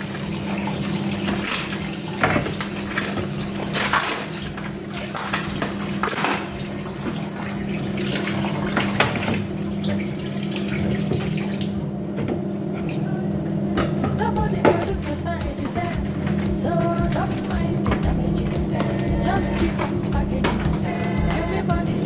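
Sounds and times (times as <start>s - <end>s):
splashes and knocks from rinsing: 0.0s - 12.5s, 13.8s - 22.0s
tap water running into sink: 0.0s - 12.5s, 13.8s - 22.0s.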